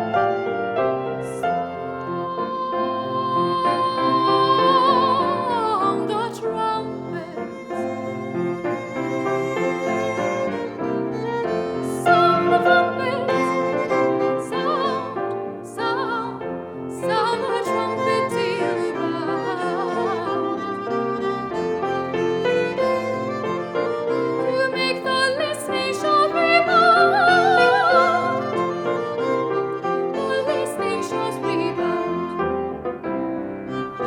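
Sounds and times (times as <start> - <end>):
bowed strings: 0.0 - 34.0
piano: 0.0 - 34.0.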